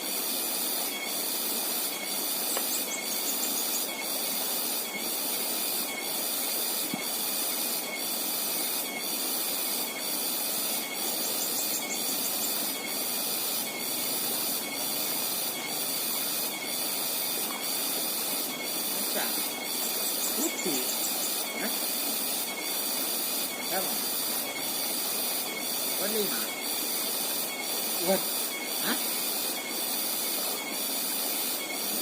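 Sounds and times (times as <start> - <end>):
high shrill pulsing hiss: 0.0 - 32.0.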